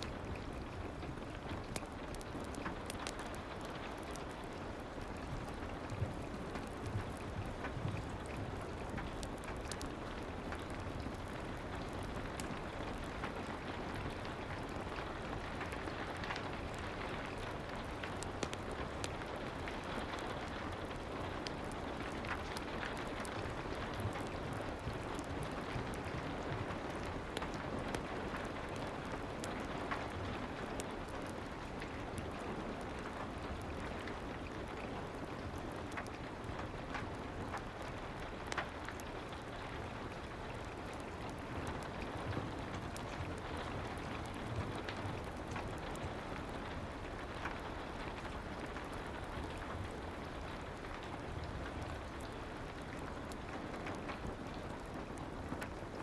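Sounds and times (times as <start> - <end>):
fireplace crackling: 0.0 - 56.0
soft rain: 0.0 - 56.0.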